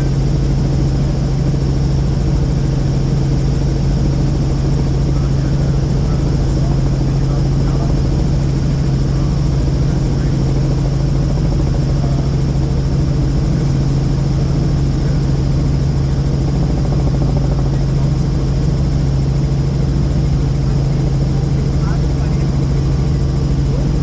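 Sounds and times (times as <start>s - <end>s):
helicopter rotor and turbine: 0.0s - 24.0s.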